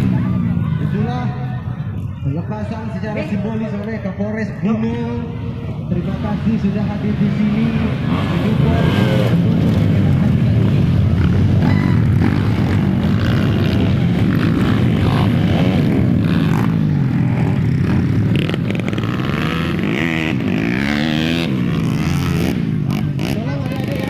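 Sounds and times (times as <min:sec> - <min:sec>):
dirt bikes racing: 0:00.0 - 0:24.0.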